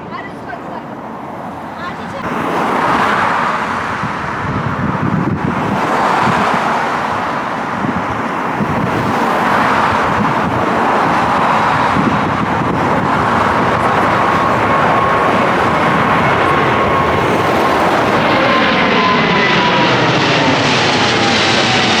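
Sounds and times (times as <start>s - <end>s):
jet airliner taking off: 0.0s - 22.0s
thin engine whine: 1.1s - 22.0s.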